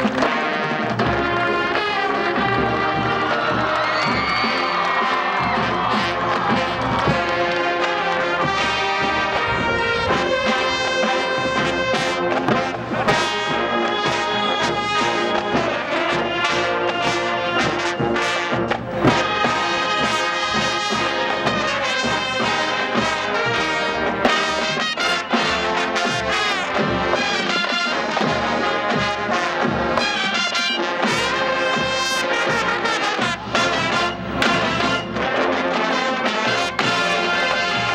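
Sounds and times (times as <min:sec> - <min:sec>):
marching band playing: 0:00.0 - 0:37.9.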